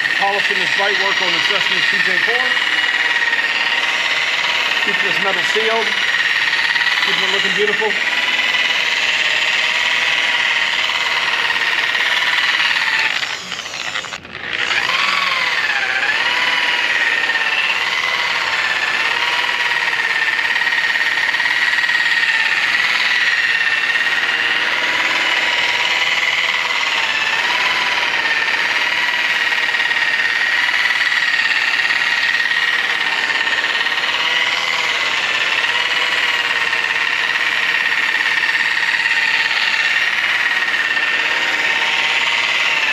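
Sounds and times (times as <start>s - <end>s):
polishing machine whine: 0.0s - 42.9s.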